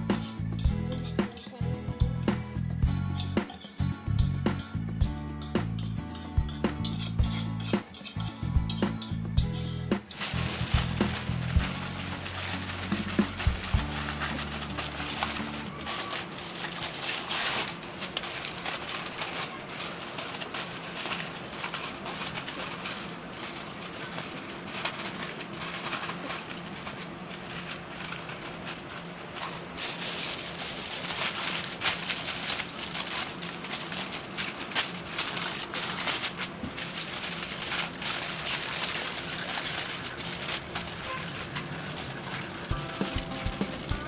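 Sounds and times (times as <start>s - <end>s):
aluminium foil crinkling: 0.0s - 44.0s.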